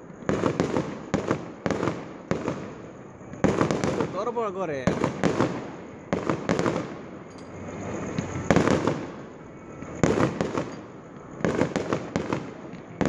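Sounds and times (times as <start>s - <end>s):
fireworks bangs: 0.0s - 13.0s
rolling echo: 0.0s - 13.0s.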